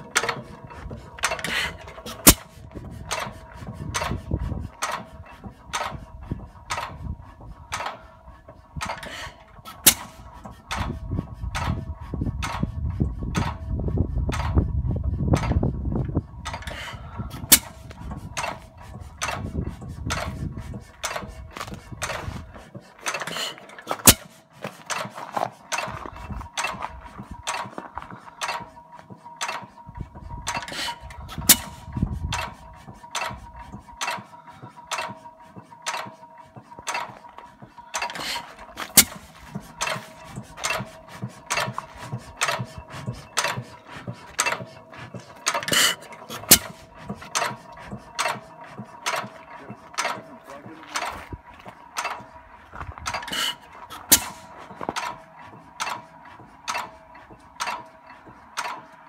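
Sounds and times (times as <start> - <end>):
engine valve gear clicking: 0.0 - 13.7, 16.4 - 59.0.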